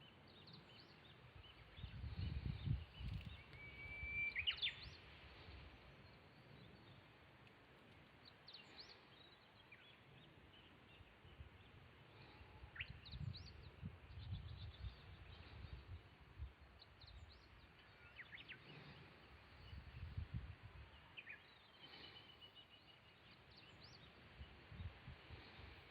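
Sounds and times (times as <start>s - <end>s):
faint bird chirps: 0.0s - 7.2s, 8.2s - 25.0s.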